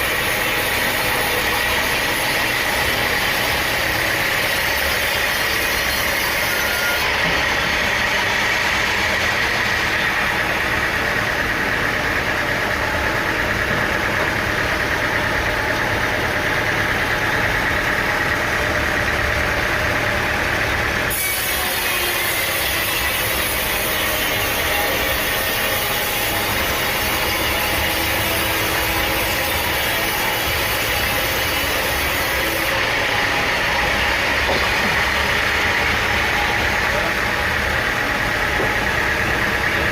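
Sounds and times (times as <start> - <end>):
high machine whine: 0.0 - 39.9
sawmill machinery engine: 0.0 - 39.9.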